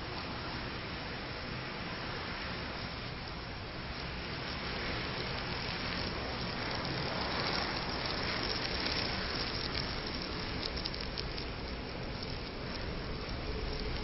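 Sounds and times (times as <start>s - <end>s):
fire rushing: 0.0s - 14.0s
sharp fire crackles: 0.0s - 14.0s.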